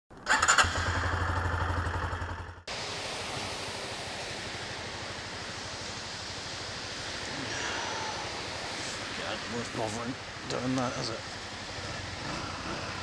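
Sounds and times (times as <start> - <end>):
rain: 0.2 - 13.0.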